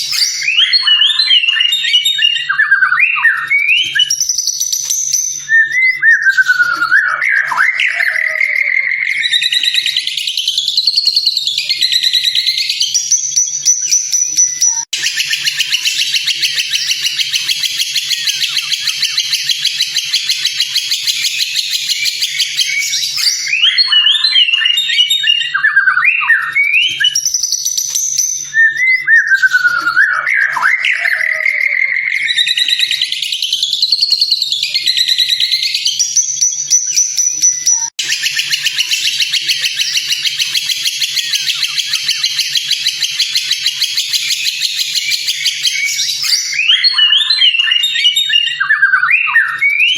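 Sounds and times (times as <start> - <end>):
bird singing whistled phrases: 0.0 - 49.9.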